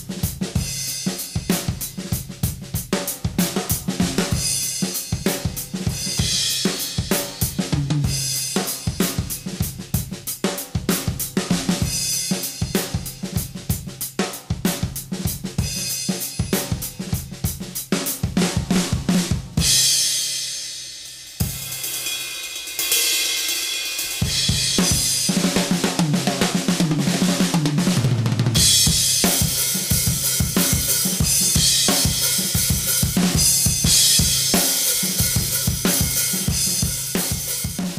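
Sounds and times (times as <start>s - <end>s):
drum kit playing: 0.0s - 37.9s.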